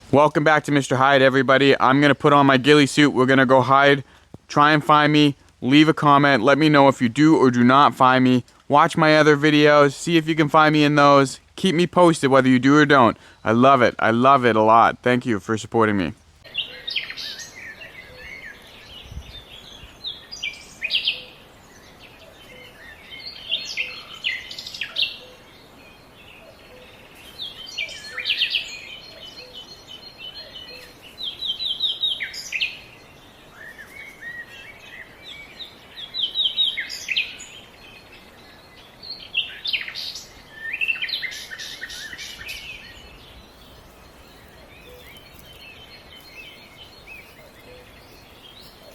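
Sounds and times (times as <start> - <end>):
faint outdoor background: 0.0 - 48.9
songbirds chirping and trilling: 0.0 - 48.9.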